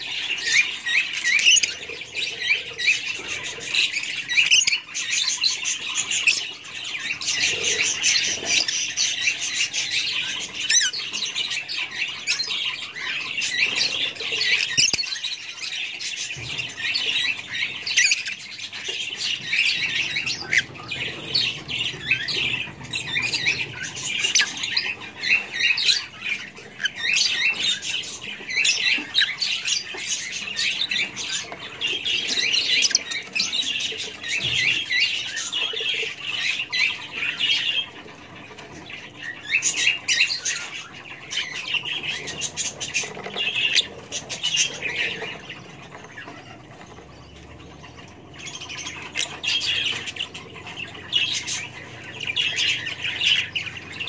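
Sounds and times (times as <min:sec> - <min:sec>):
lovebirds chirping and squawking: 0:00.0 - 0:54.0.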